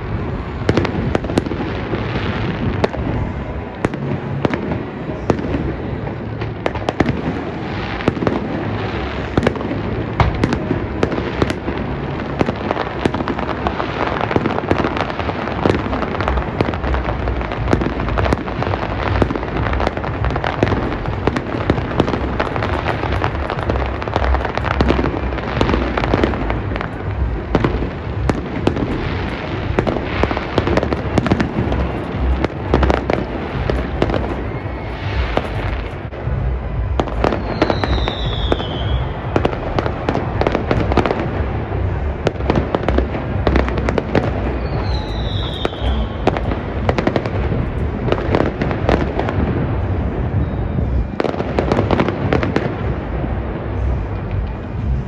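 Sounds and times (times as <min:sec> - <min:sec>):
fireworks bangs and crackling: 0:00.0 - 0:55.0
fireworks falling whistles: 0:00.1 - 0:53.1.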